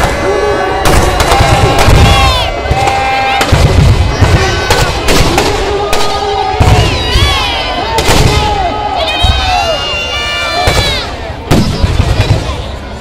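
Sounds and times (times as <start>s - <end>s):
firecrackers banging: 0.0s - 9.5s, 10.6s - 12.9s
crowd shouting and cheering: 0.0s - 13.0s.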